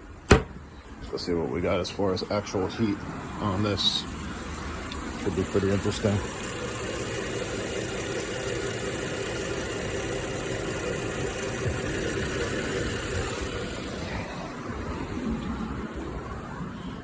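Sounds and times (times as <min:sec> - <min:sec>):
car engine idling: 0:00.1 - 0:17.0.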